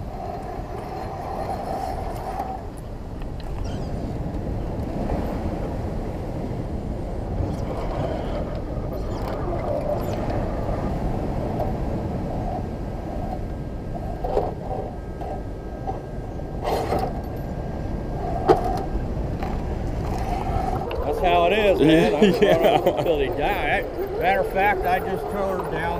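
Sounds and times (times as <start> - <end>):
surf: 0.0 - 25.9
wind: 0.0 - 25.9.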